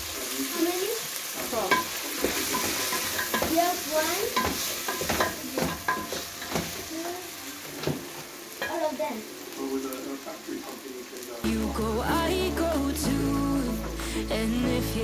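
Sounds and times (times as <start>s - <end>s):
stew sizzling: 0.0s - 15.0s.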